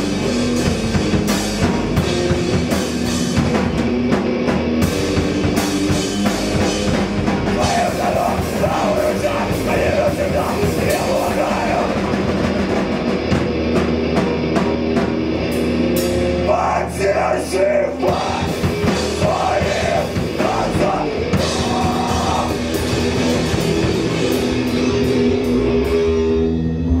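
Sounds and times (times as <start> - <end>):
drum kit: 0.0 - 26.8
electric guitar: 0.0 - 27.0.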